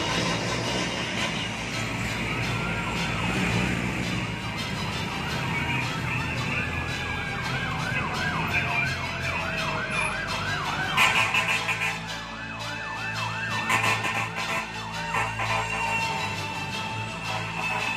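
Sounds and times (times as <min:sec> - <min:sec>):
fire truck siren: 0:00.0 - 0:17.9
traffic rumble: 0:00.0 - 0:17.9.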